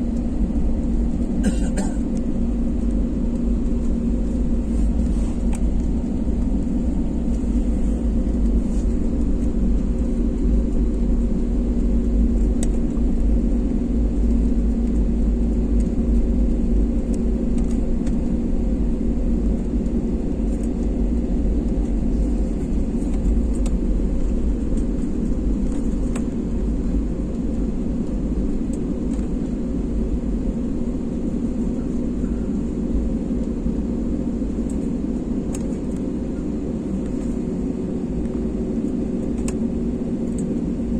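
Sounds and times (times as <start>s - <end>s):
constant cabin hum: 0.0s - 40.9s
jet engine low rumble: 0.0s - 40.9s.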